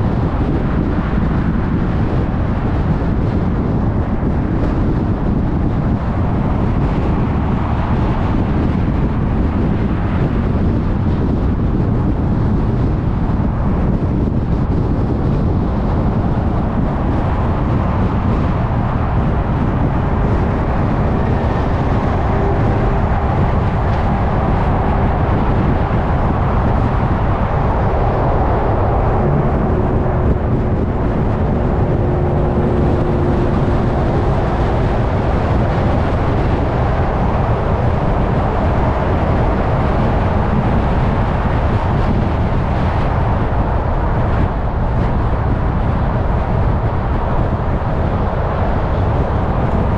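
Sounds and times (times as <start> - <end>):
car road and tyre noise: 0.0 - 49.9.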